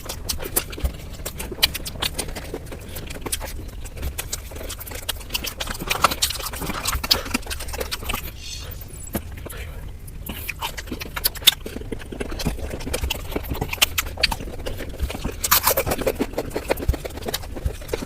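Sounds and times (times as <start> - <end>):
crunching fried chicken: 0.0 - 18.0.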